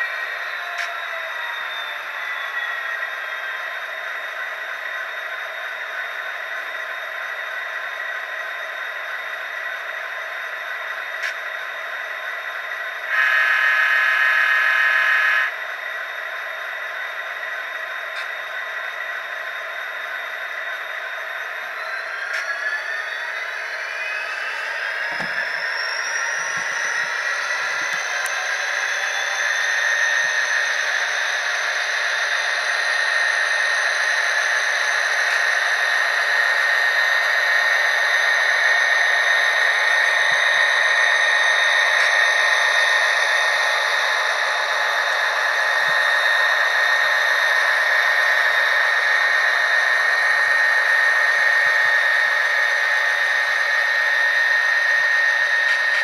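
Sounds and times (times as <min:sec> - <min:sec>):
rising whine: 0:00.0 - 0:56.0
tinny model locomotive engine sound: 0:00.0 - 0:56.0.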